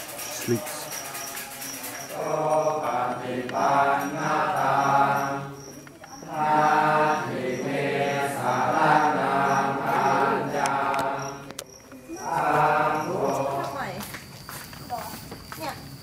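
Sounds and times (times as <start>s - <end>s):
monks chanting in unison: 0.0s - 14.1s.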